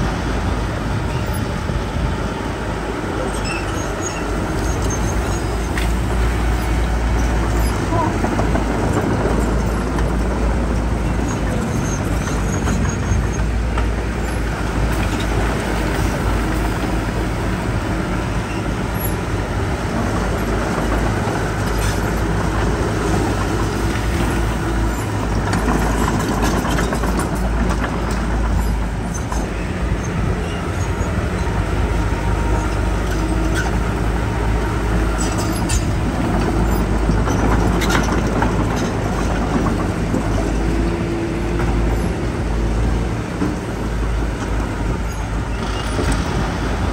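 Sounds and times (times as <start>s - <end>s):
heavy diesel machinery rumbling: 0.0s - 46.9s.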